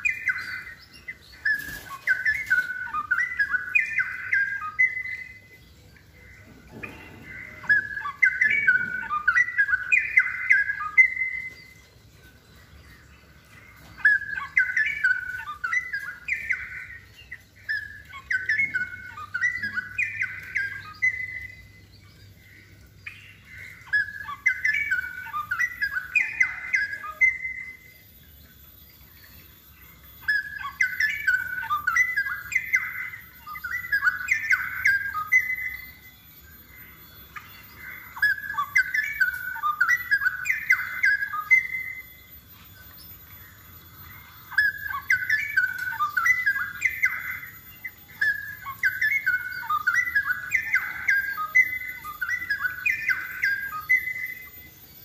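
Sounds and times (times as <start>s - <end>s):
bird singing warbling phrases: 0.0s - 55.0s.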